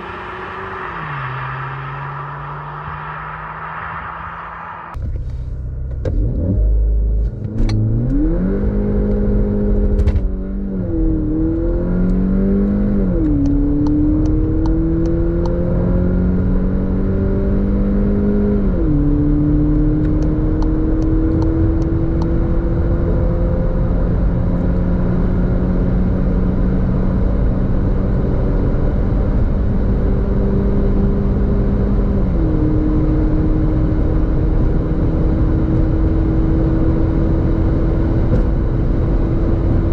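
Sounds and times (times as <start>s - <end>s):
car engine accelerating hard: 0.0s - 5.3s, 5.9s - 39.9s.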